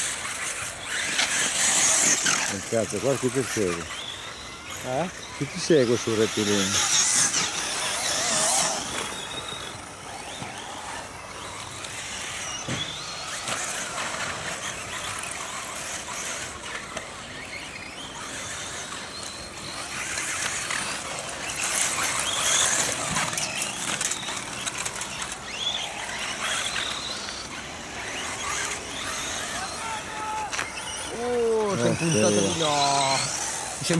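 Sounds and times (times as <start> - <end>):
toy car motor whining: 0.0 - 33.9.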